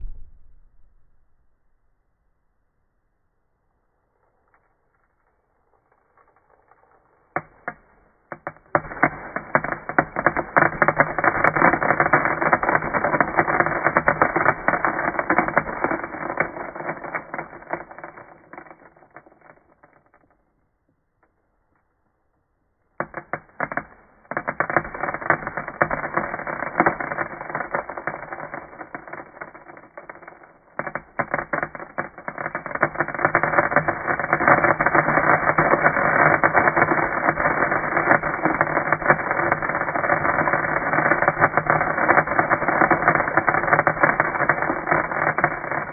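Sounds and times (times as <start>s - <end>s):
rapid crackling and popping: 4.2s - 20.6s, 22.9s - 45.9s.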